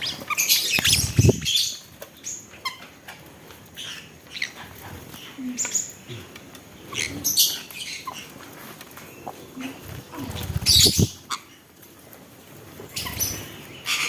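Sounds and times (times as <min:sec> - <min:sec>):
small clicks and rustles: 0:00.0 - 0:13.5
pet birds chirping: 0:00.0 - 0:14.0.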